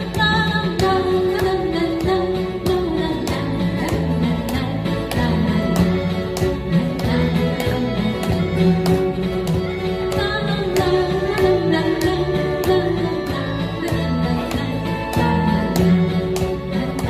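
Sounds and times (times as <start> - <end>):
acoustic guitar band music: 0.0 - 17.0.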